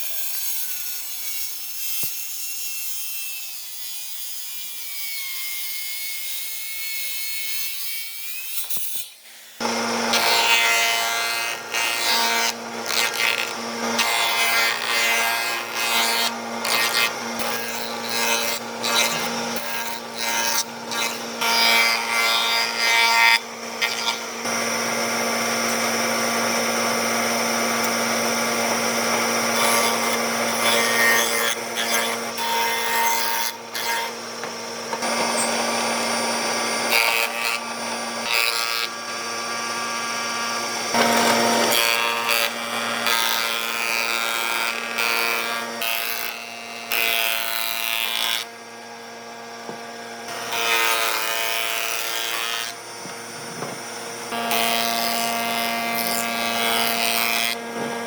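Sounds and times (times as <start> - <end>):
power tool motor hum: 9.6 - 45.8, 46.4 - 58.0
rasping and sawing wood: 9.6 - 58.0.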